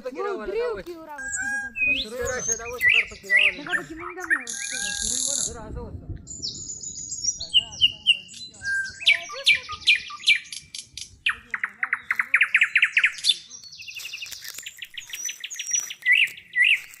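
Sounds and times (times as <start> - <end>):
songbirds singing: 1.0 - 17.0.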